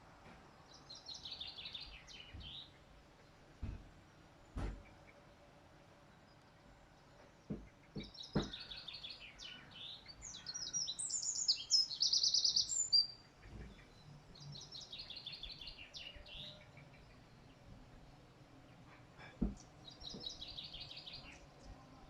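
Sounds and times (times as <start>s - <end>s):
songbird twittering chirps: 0.7s - 3.4s, 6.1s - 18.9s, 19.6s - 22.0s.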